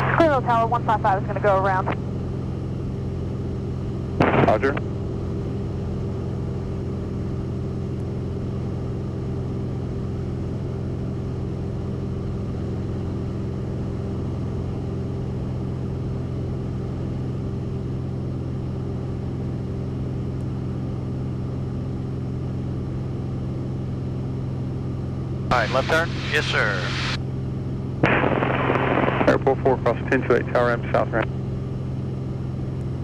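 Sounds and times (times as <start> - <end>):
airplane engine and propeller drone: 0.0 - 33.0.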